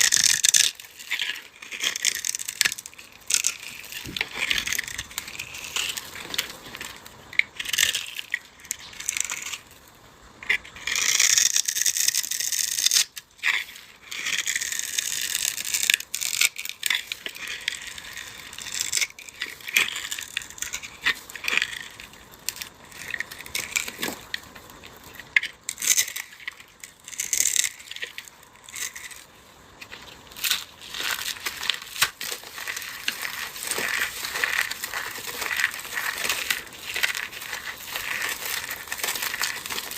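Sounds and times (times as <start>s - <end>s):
dry material crunching: 0.0s - 39.9s.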